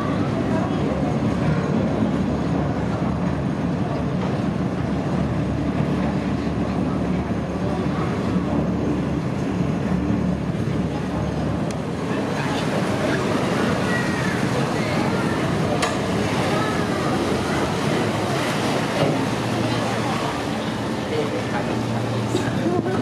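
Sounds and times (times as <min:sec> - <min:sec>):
ferry engines rumbling: 0:00.0 - 0:23.0
propellers churning water: 0:00.0 - 0:23.0.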